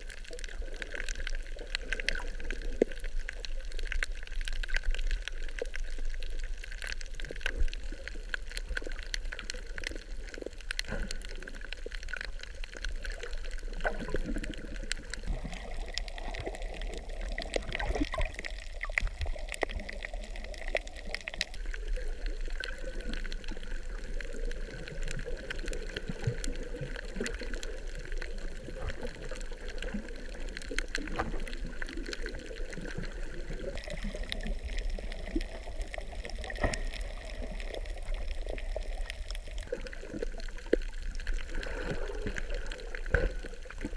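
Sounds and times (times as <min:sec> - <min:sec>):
crackle of tiny clicks: 0:00.0 - 0:43.9
muffled water sloshing and gurgling: 0:04.0 - 0:43.9.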